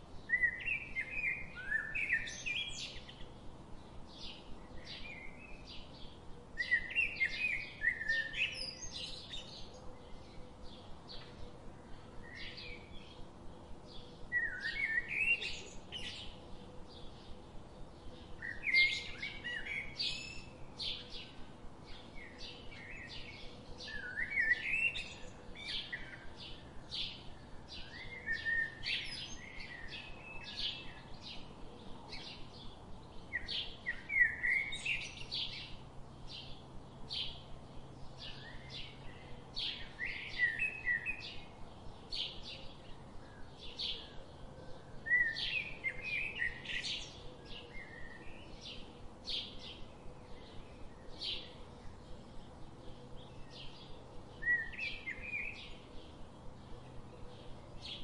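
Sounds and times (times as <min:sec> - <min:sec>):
birds chirping and singing: 0:00.2 - 0:58.0.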